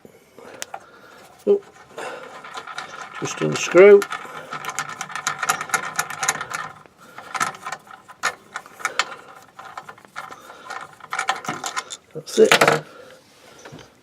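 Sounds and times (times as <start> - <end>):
rapid clicking of lever unscrewing: 0.6 - 12.1.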